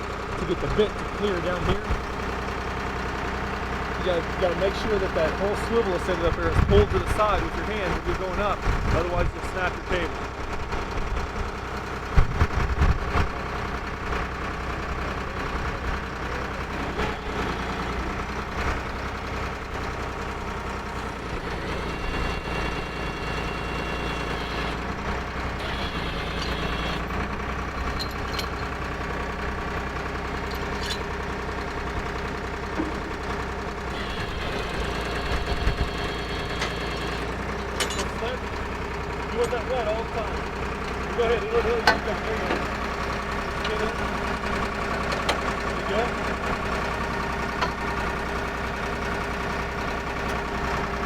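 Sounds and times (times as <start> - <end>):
drill rig engine running: 0.0 - 51.0.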